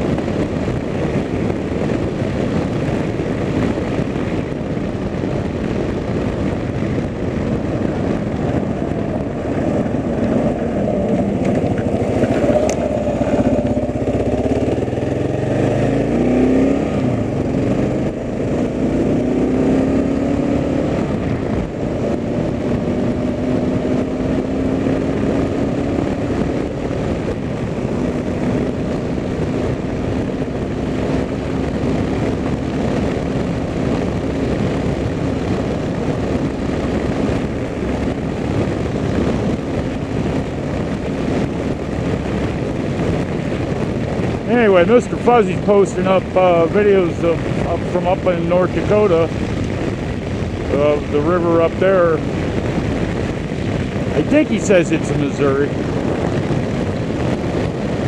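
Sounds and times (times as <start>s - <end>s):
road noise: 0.0s - 58.0s
vehicle engine: 0.0s - 58.0s.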